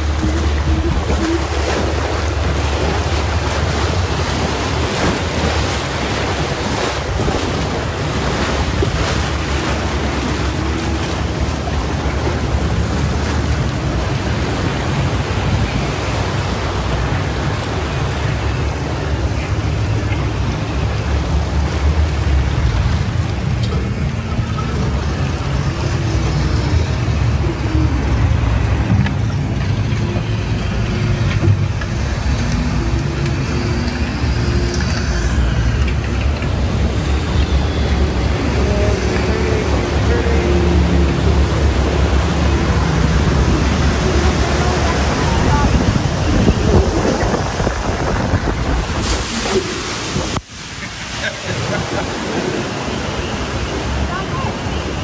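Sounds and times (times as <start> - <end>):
wind buffeting microphone: 0.0 - 50.6
rushing white water: 0.0 - 55.0.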